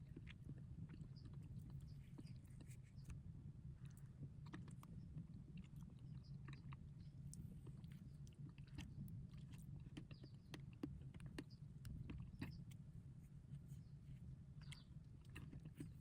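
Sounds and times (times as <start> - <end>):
small clicks and crackles: 0.0 - 3.2, 3.8 - 16.0
low steady hum: 0.0 - 16.0.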